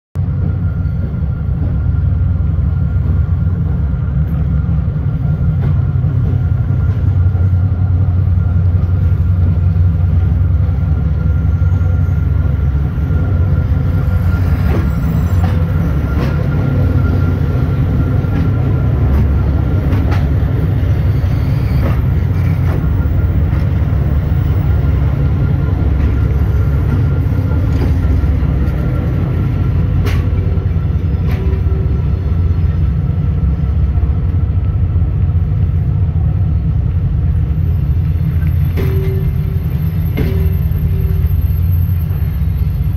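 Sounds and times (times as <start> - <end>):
train wheels rumbling: 0.2 - 42.9.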